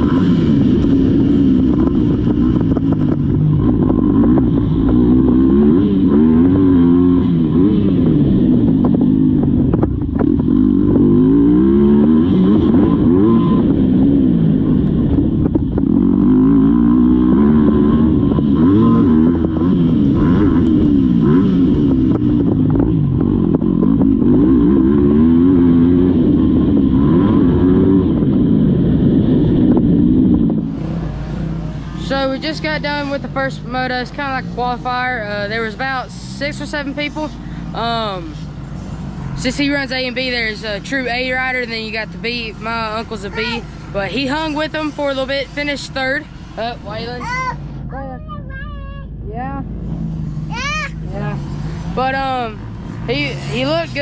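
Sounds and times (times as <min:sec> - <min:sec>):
dirt bike engine revving: 0:00.0 - 0:48.4, 0:49.1 - 0:54.0.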